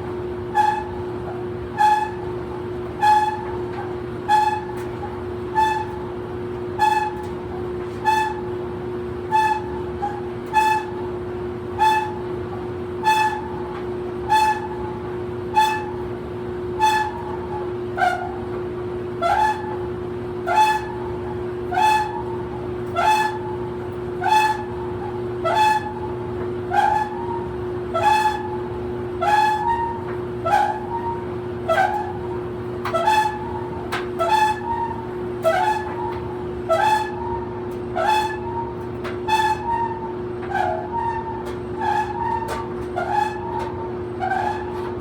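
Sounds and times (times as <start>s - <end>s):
dryer drum squeaking: 0.0s - 45.0s
dryer motor hum: 0.0s - 45.0s.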